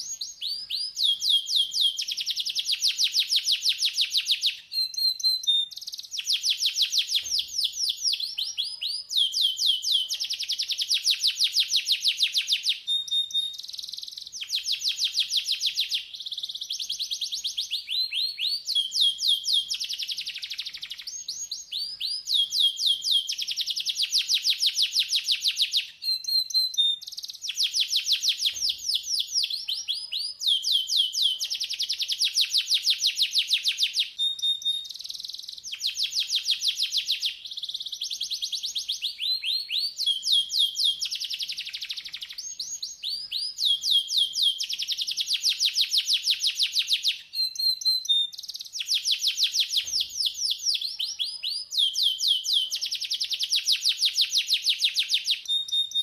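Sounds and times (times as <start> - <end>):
canary singing fast trills: 0.0 - 56.0.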